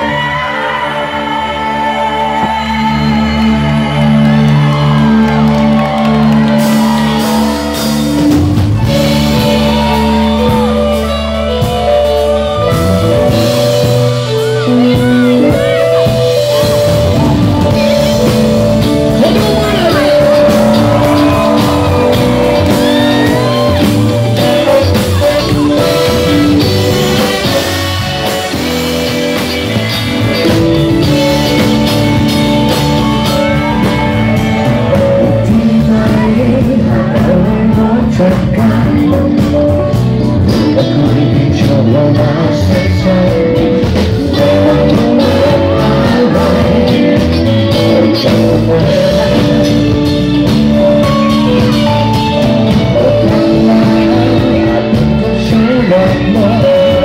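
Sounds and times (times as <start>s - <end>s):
bass guitar: 0.0s - 57.0s
drums: 0.0s - 57.0s
electric guitars: 0.0s - 57.0s
person singing: 0.0s - 57.0s.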